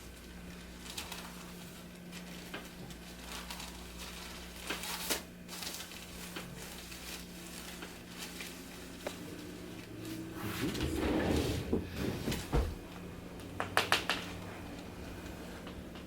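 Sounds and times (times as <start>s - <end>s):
steady low hum: 0.0s - 16.0s
clothing rustling and handling: 0.5s - 13.5s.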